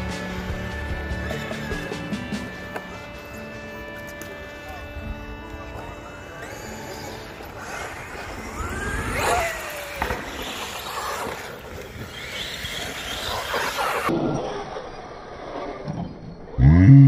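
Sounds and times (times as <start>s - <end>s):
rc truck electric motors whining: 0.0s - 16.8s.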